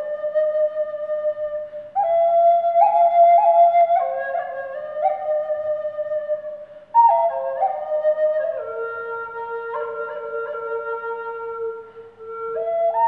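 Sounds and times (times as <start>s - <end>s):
flute slow melody: 0.0s - 13.0s.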